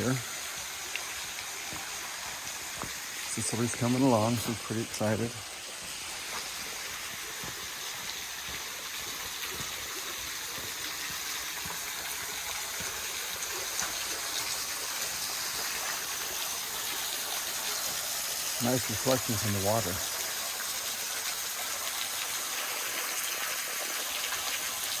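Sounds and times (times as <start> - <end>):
trickling waterfall splashing: 0.0 - 25.0.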